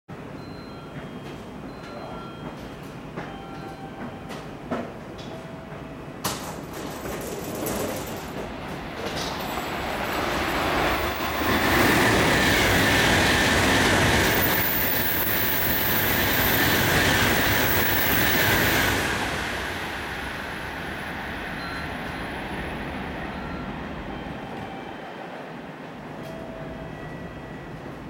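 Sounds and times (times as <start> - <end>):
train passing at speed: 0.1 - 28.0.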